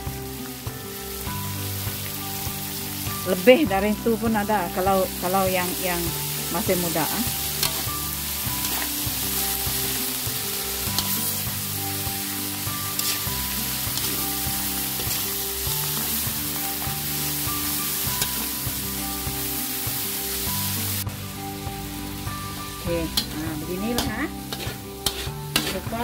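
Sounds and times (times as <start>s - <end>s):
background music: 0.0s - 26.0s
food sizzling in a pan: 0.0s - 26.0s.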